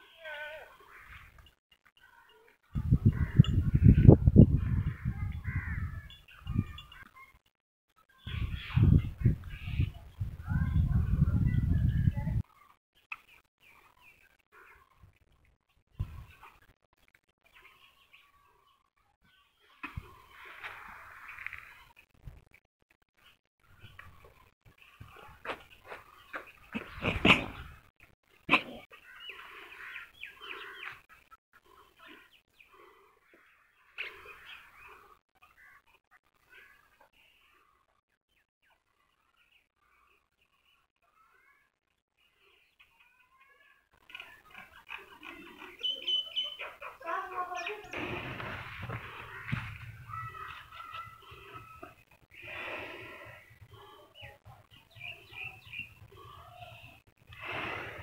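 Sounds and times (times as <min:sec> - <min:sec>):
small birds chirping: 0:08.1 - 0:22.4, 0:23.2 - 0:58.0.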